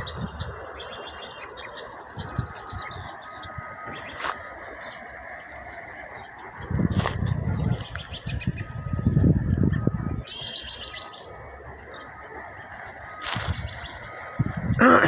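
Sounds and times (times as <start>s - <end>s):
high rapid bird trill: 0.0s - 15.0s
small birds chirping: 0.0s - 15.0s.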